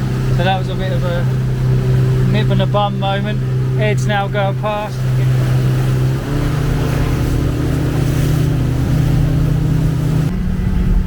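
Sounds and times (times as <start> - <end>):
outboard motor droning: 0.0 - 11.0
water rushing: 0.0 - 11.0
wind: 0.0 - 11.0.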